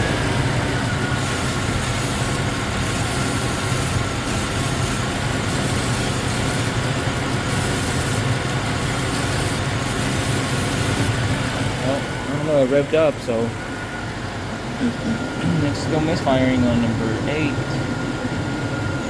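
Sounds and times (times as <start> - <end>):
truck engine idling and misfiring: 0.0 - 19.0.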